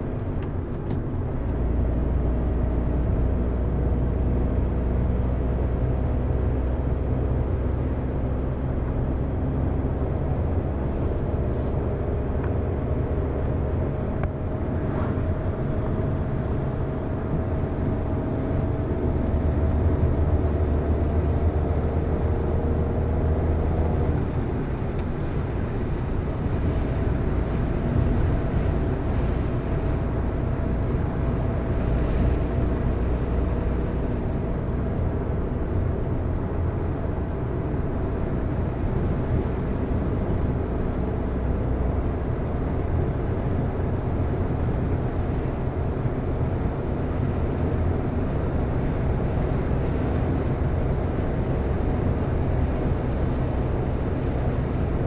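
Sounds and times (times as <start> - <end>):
car engine: 0.0 - 55.0
tyre road noise: 0.0 - 55.0.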